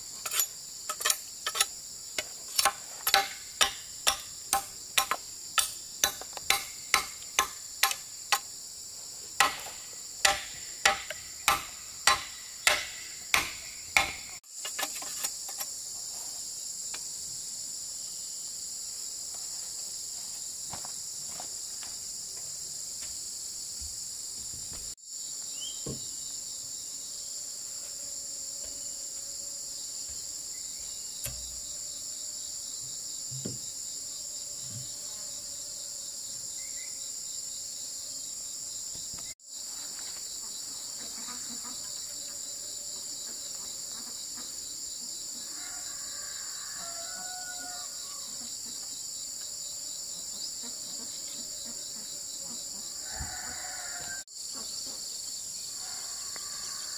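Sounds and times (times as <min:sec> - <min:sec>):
insects buzzing and trilling: 0:00.0 - 0:56.9.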